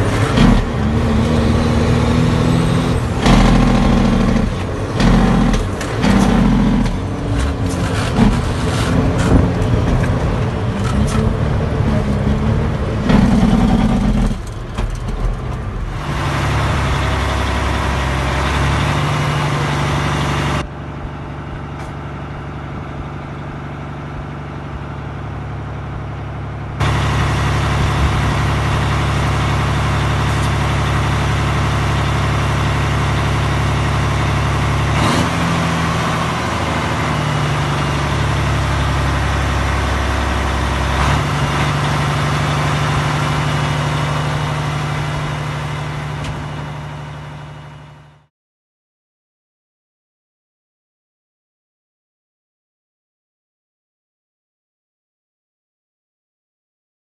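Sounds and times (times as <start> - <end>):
heavy diesel truck engine running: 0.0 - 48.3.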